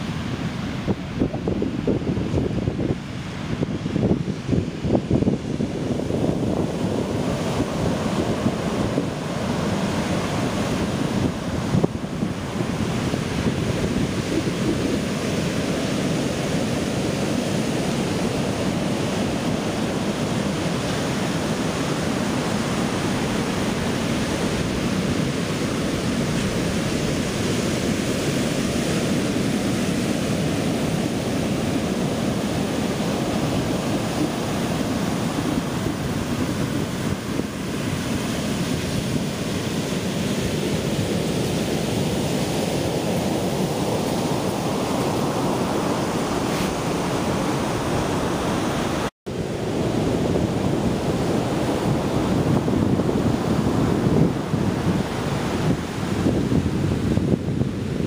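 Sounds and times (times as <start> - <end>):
surf breaking on beach: 0.0 - 58.0.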